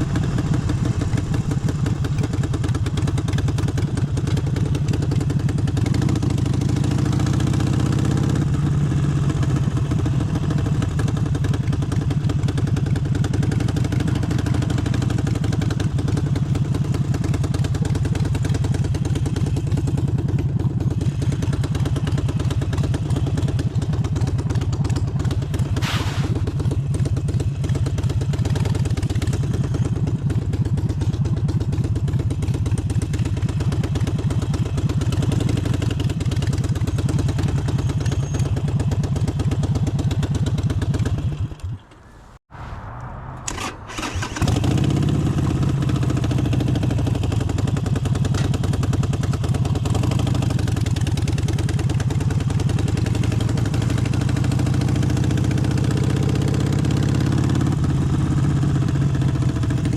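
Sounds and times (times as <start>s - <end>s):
motorcycle engine idling: 0.0s - 42.2s, 43.9s - 59.9s.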